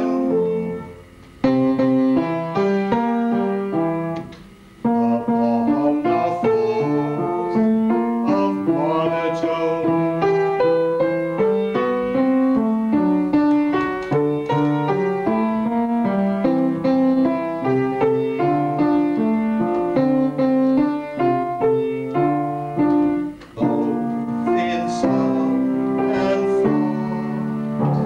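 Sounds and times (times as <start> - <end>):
piano playing quick notes: 4.9 - 28.0.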